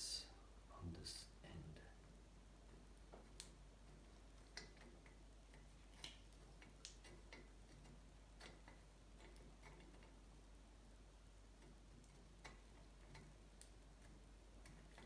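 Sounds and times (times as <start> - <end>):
low room hum: 0.0 - 15.0
light clicks and taps: 1.8 - 10.6, 11.2 - 15.0.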